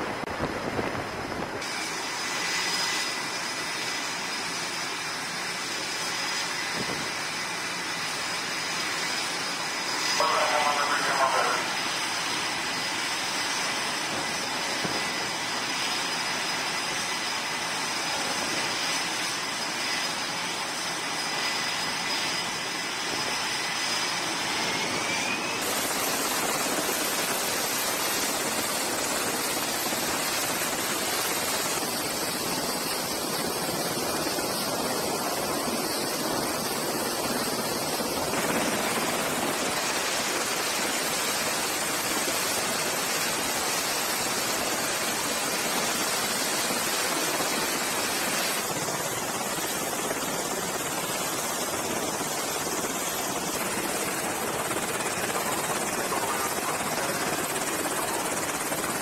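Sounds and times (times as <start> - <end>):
aircraft turbine engines: 0.0 - 59.0
helicopter rotors turning: 0.0 - 59.0.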